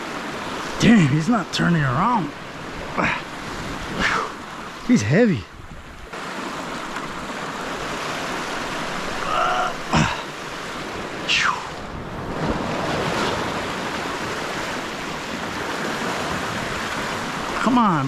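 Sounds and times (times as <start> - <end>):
ocean surf washing ashore: 0.0 - 18.0.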